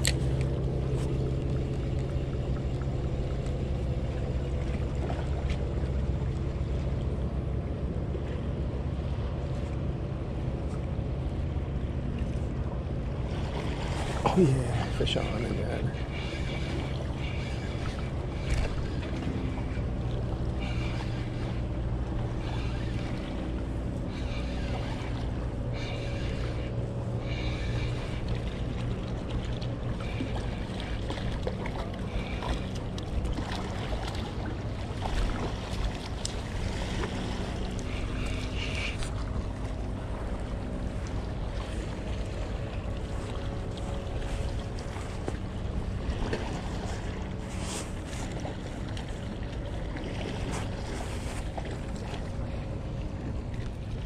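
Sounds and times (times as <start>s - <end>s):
low motor drone: 0.0s - 54.0s
wind: 0.0s - 54.0s.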